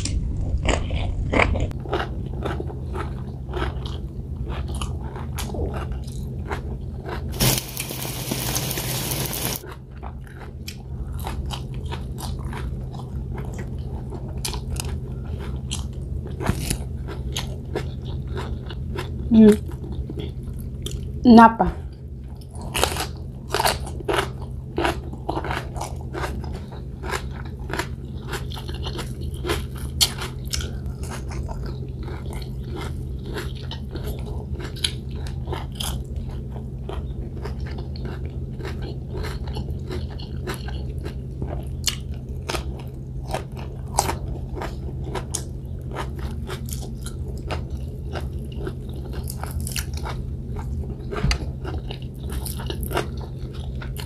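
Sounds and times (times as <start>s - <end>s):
low steady hum: 0.0s - 54.0s
crisp crunching and chewing: 0.6s - 21.2s, 22.2s - 54.0s.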